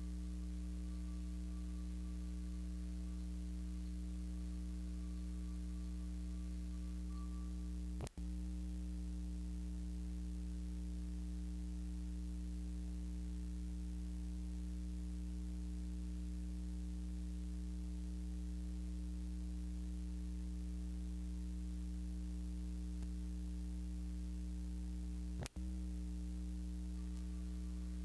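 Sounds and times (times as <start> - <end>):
constant hiss: 0.0 - 28.0
low electrical hum: 0.0 - 28.0.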